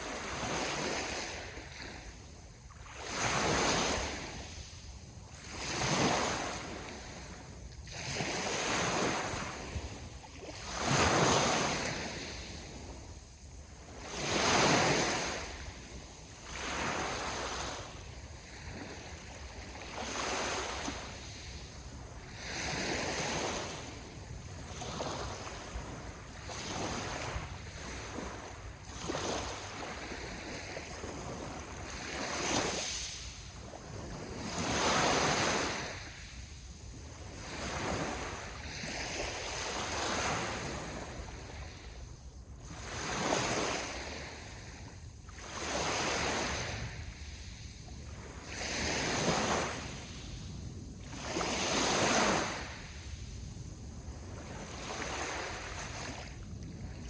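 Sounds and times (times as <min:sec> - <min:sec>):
ocean waves: 0:00.0 - 0:57.0.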